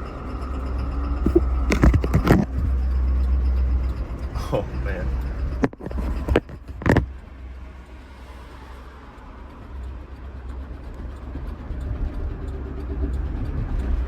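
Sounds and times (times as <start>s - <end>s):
engine drone from inside car: 0.0s - 14.0s
engine knocking: 0.0s - 14.0s.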